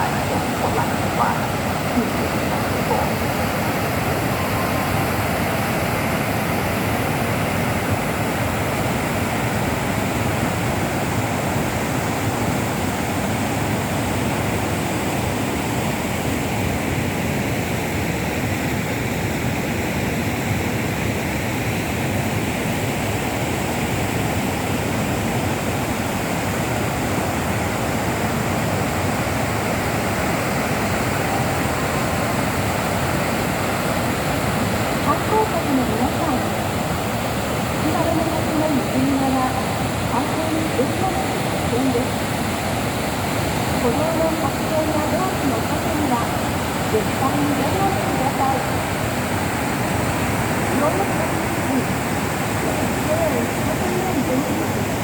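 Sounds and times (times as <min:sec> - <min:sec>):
waterfall roar: 0:00.0 - 0:55.0.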